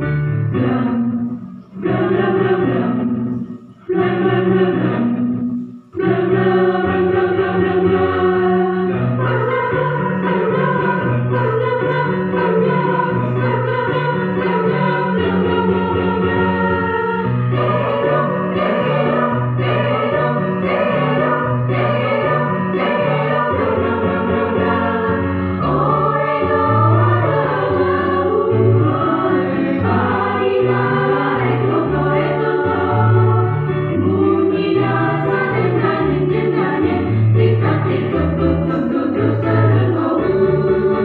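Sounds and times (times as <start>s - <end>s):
choir singing in parts: 0.0s - 41.0s.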